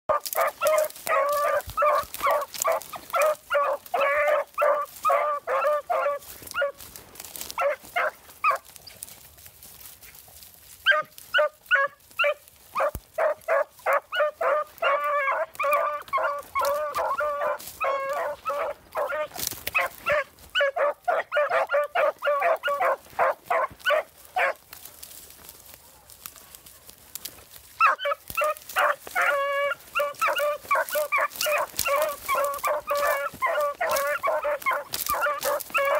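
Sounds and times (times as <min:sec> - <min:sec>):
puppies baying and yelping: 0:00.1 - 0:09.3, 0:10.1 - 0:25.1, 0:25.8 - 0:35.9.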